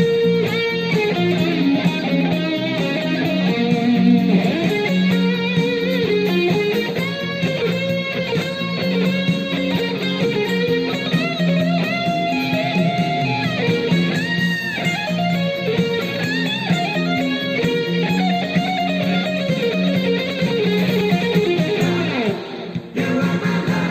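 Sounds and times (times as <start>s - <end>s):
electric guitar solo: 0.0s - 23.9s.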